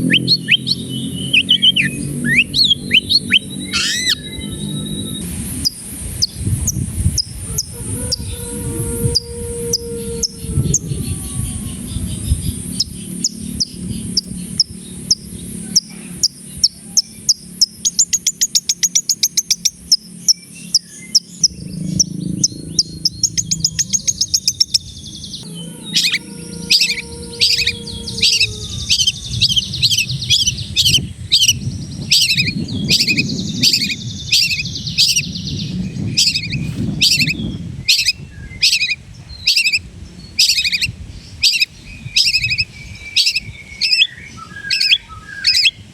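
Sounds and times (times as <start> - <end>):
low rumble: 0.0 - 45.9
songbird singing trills: 0.0 - 45.9.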